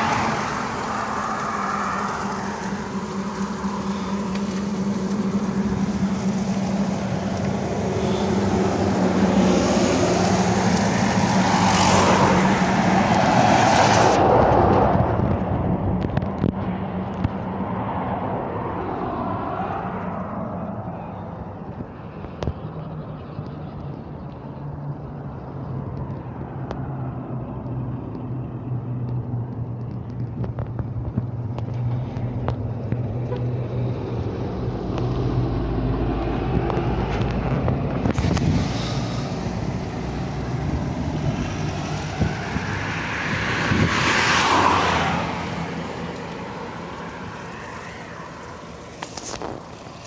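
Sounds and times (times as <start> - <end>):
vehicle passing by: 0.0 - 21.8, 31.5 - 50.0
engine hum: 0.0 - 50.0.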